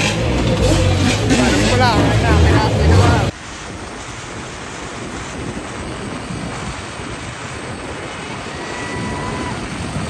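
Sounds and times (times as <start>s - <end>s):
motorbike road noise: 0.0s - 10.0s
wind rush on microphone: 0.0s - 10.0s.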